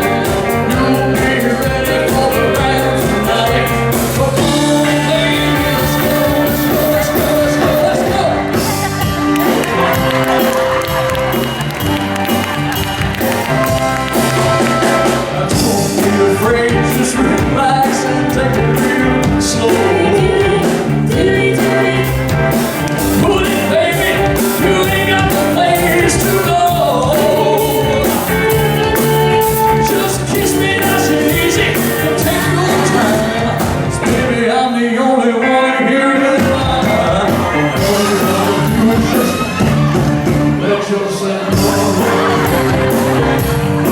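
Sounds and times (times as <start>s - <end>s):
drum beat: 0.0s - 34.3s, 41.5s - 43.9s
person singing: 0.0s - 43.9s
rock band playing: 0.0s - 43.9s.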